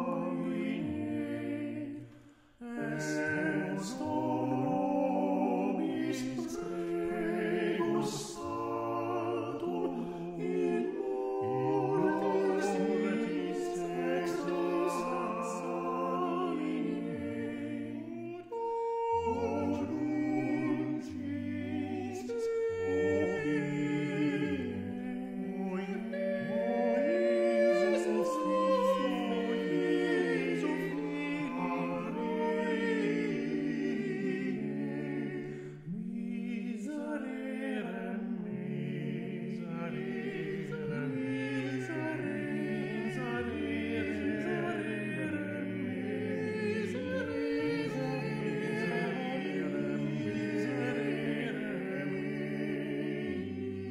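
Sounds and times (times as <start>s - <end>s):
a cappella ensemble singing: 0.0s - 53.9s.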